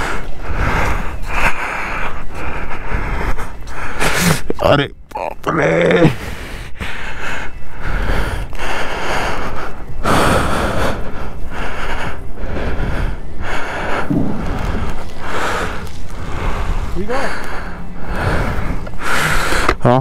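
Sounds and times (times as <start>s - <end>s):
steady low rumble: 0.0s - 4.6s, 6.9s - 19.6s.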